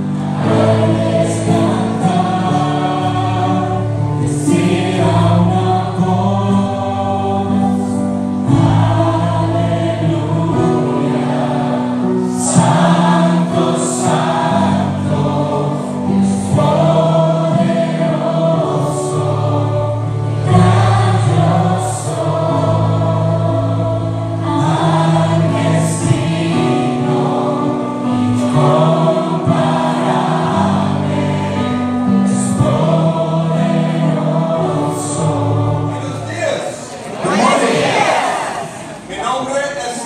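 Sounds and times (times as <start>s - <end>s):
many voices singing along: 0.0s - 39.4s
keyboard: 0.0s - 40.0s.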